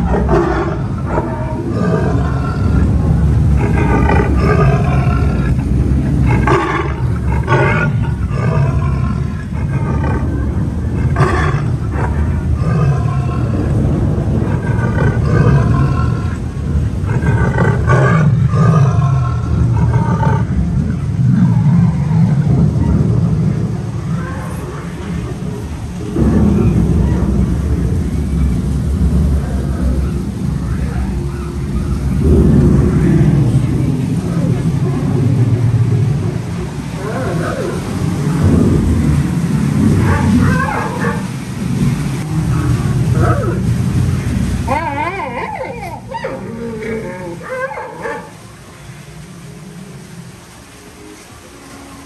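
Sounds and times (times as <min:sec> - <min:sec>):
loud steady low rumble: 0:00.0 - 0:47.4
recorded tiger roars and growls: 0:00.0 - 0:50.3.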